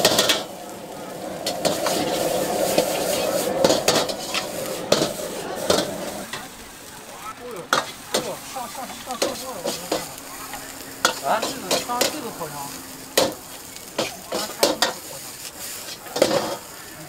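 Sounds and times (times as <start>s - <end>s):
rice sizzling: 0.0s - 17.0s.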